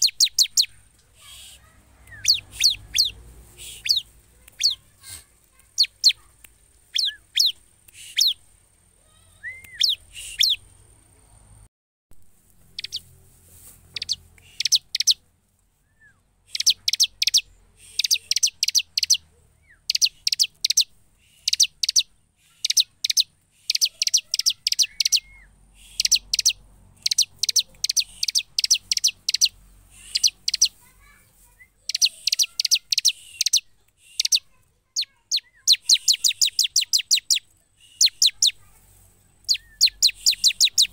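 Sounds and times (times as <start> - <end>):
bird chirping in bursts: 0.0 - 11.5, 12.6 - 13.2, 13.9 - 15.2, 16.2 - 40.9.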